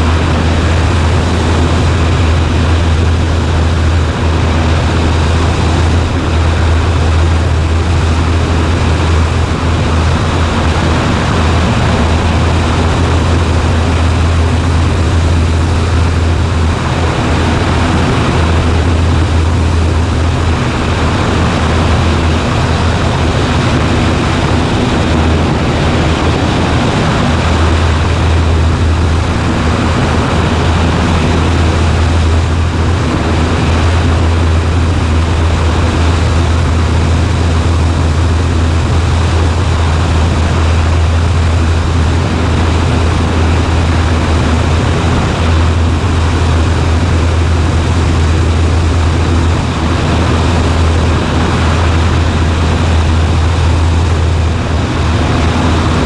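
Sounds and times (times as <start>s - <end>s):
propeller plane engine droning: 0.0s - 56.0s.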